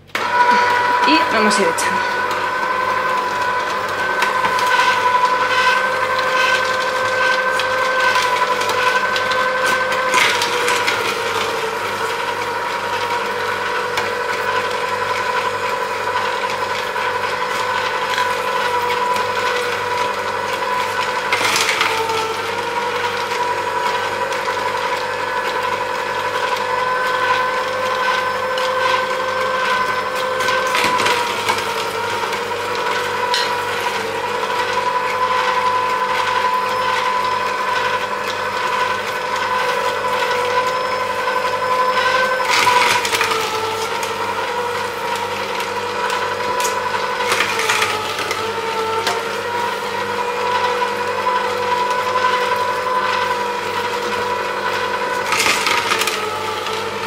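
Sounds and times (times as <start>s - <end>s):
juicer motor whining: 0.0s - 57.0s
auger crushing fruit: 0.1s - 57.0s.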